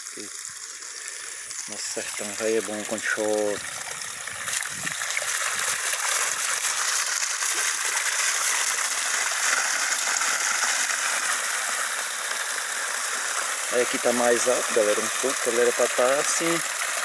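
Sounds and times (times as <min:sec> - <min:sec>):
water rushing over a spillway: 0:01.6 - 0:17.0.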